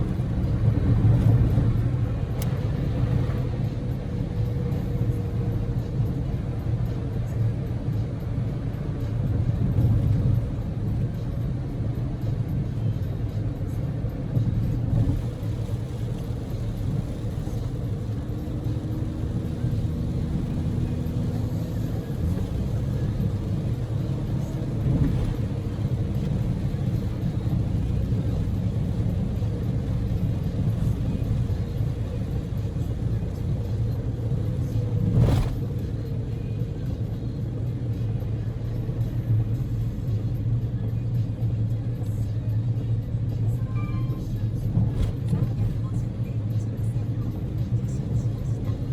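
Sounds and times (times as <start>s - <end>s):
car engine rumble: 0.0s - 48.9s
tyres on the road: 0.0s - 48.9s.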